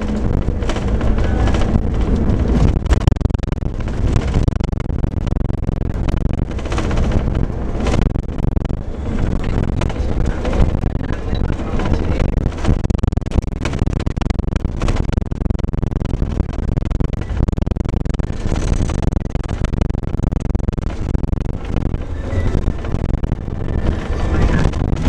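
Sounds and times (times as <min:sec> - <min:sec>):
bus diesel engine rumble: 0:00.0 - 0:25.0
wind on the microphone: 0:00.0 - 0:25.0.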